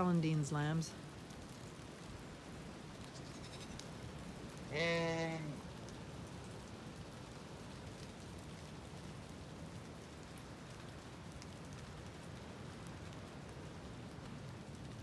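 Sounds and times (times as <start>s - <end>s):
light rain on foliage: 0.0s - 15.0s.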